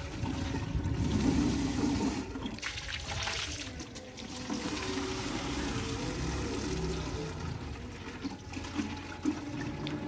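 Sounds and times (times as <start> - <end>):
hose water filling plastic can: 0.0 - 10.0.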